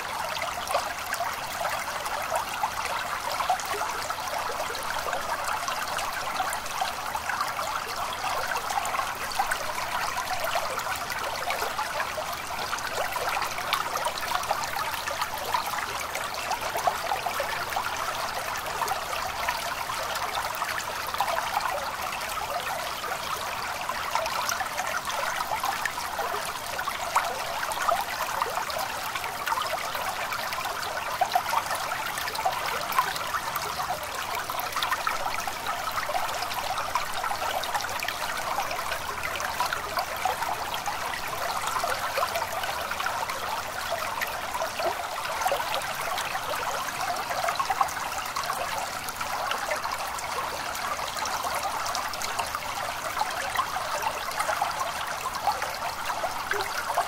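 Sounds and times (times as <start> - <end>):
stream trickling and babbling: 0.0 - 57.0.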